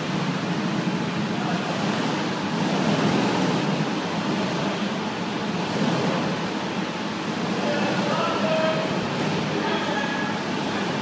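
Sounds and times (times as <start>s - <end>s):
go-kart hall rushing din: 0.0s - 11.0s.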